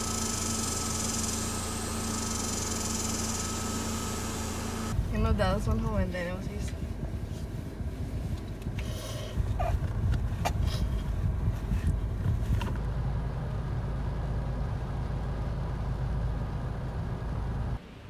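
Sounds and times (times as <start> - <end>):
car cabin rumble: 0.0 - 17.8.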